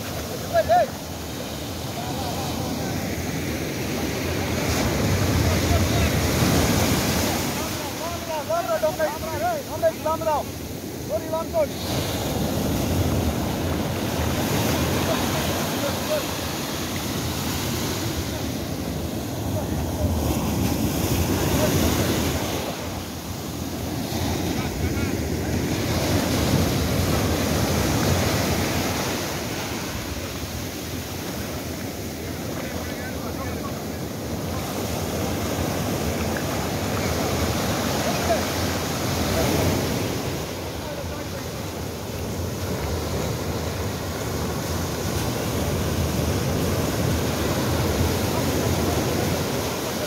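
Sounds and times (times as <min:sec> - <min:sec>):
surf breaking in shallows: 0:00.0 - 0:50.0.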